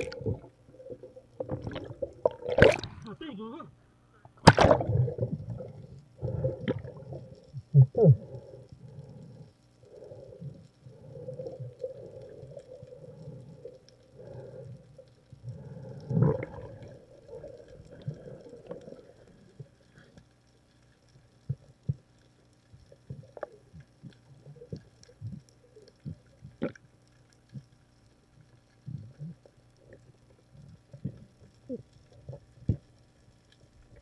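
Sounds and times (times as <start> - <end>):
muffled underwater water movement: 0.0 - 34.0.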